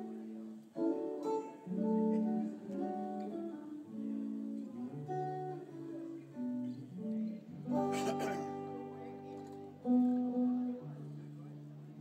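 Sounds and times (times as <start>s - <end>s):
electric guitar picked notes: 0.0s - 12.0s.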